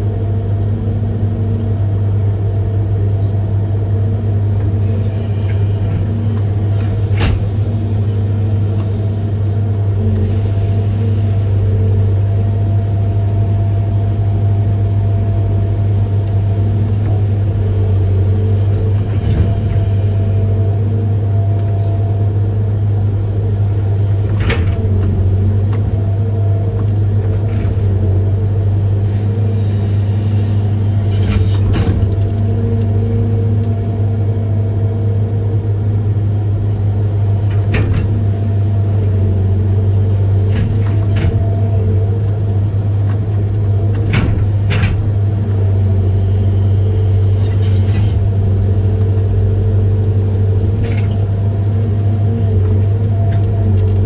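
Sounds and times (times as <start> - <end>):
diesel engine humming under load: 0.0 - 54.0.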